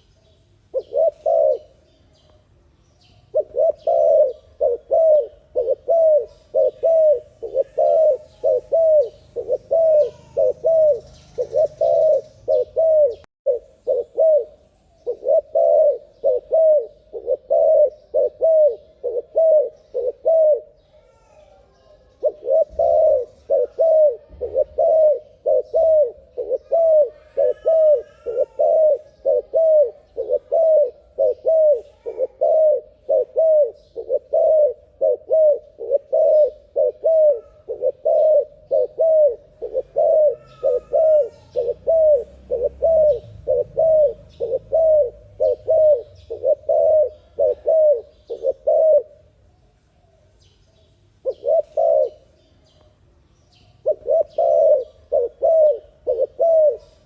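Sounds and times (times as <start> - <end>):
dove cooing: 0.7 - 1.9, 3.2 - 49.4, 51.2 - 52.4, 53.8 - 57.0.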